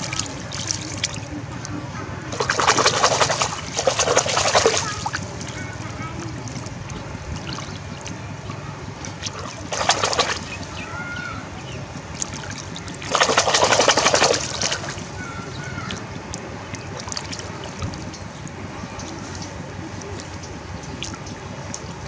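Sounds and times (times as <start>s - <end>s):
fish thrashing and splashing: 0.0s - 1.7s, 2.3s - 22.0s.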